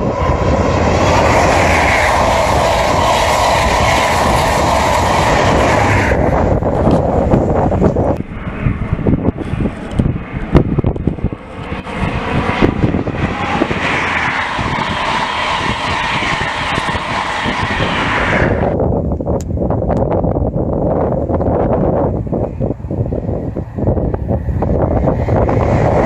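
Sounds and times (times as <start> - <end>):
train passing at speed: 0.0 - 18.8, 21.6 - 26.0.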